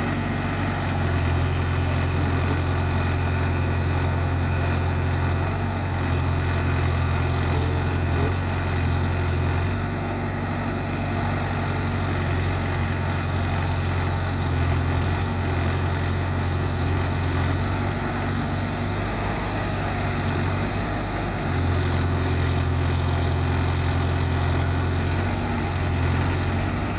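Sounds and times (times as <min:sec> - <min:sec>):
diesel backhoe engine running: 0:00.0 - 0:26.9.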